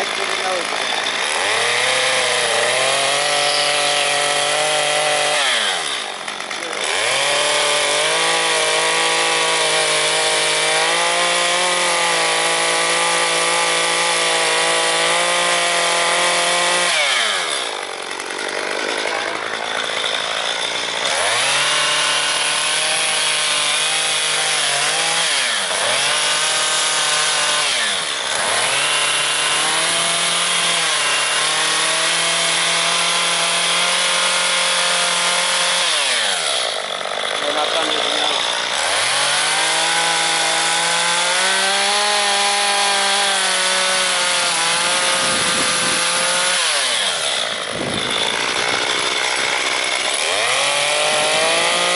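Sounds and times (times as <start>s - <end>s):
chainsaw revving into log: 0.0s - 51.9s.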